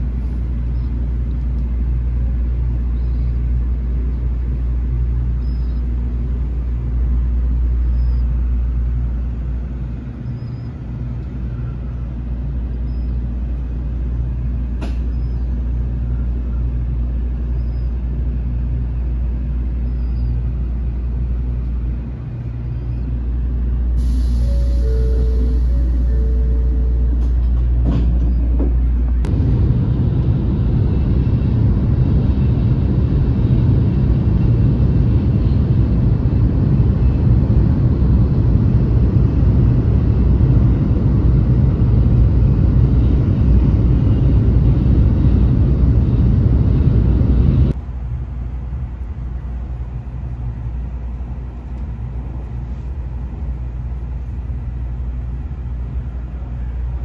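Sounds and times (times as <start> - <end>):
train cabin hum: 0.0 - 57.0
train running rumble: 0.0 - 57.0.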